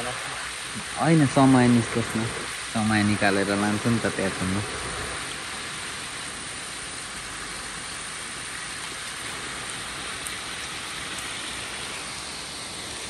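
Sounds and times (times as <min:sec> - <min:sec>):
water running in a channel: 0:00.0 - 0:13.0.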